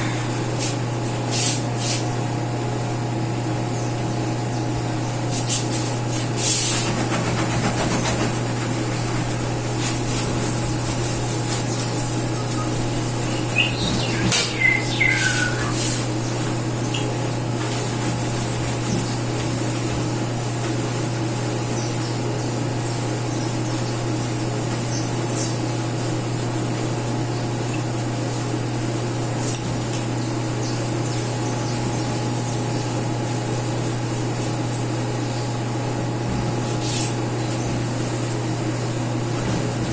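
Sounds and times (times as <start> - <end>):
low electric hum: 0.0 - 39.9.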